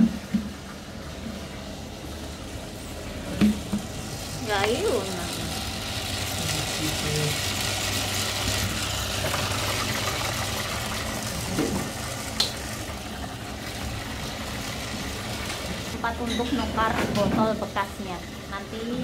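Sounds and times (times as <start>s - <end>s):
machine mechanical hum: 0.0s - 19.0s.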